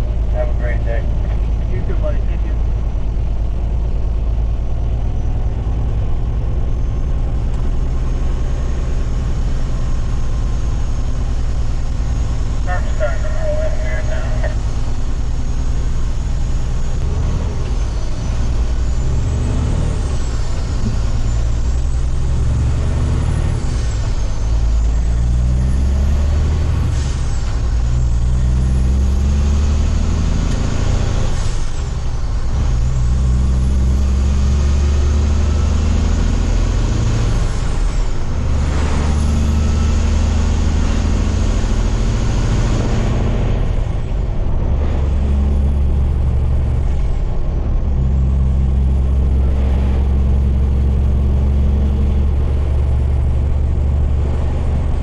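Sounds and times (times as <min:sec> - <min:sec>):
diesel truck engine shifting gears: 0:00.0 - 0:55.0.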